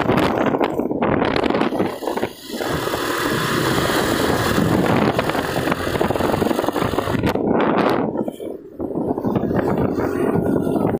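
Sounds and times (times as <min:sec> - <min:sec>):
motorcycle engine: 0:00.0 - 0:10.9
wind buffeting microphone: 0:00.0 - 0:10.9.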